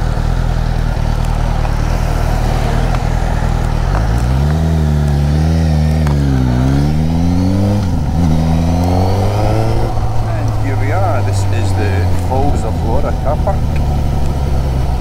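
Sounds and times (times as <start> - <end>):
motorcycle engine revving: 0.0 - 15.0
wind noise: 1.2 - 15.0.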